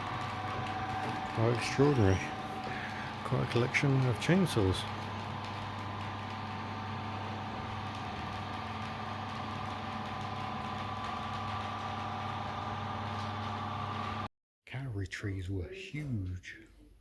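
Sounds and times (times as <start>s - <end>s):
machinery hum: 0.0s - 14.3s.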